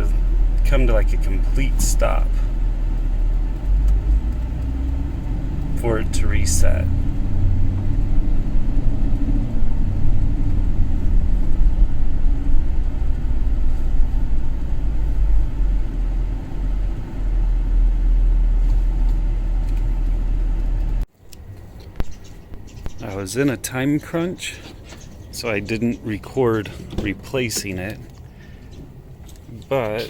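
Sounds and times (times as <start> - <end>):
engine and road noise inside car: 0.0 - 30.0.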